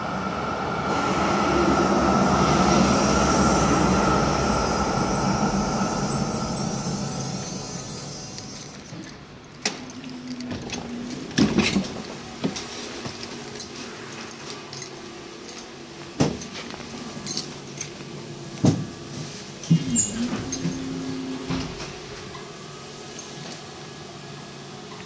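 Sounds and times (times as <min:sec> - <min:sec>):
low hum of rail car: 0:00.0 - 0:25.0.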